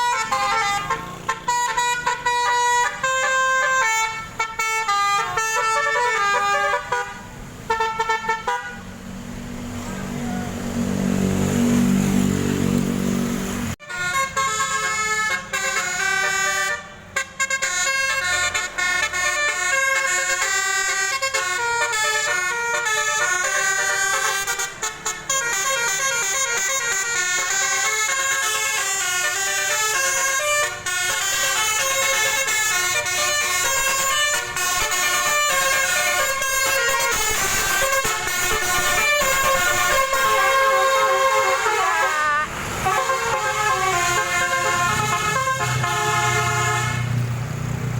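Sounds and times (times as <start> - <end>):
bus musical horns: 0.0 - 8.9, 11.2 - 47.4.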